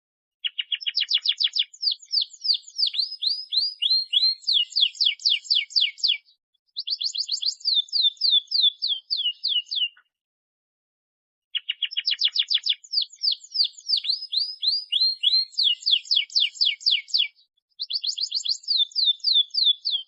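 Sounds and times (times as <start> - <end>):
canary singing: 0.4 - 10.1, 11.5 - 20.0.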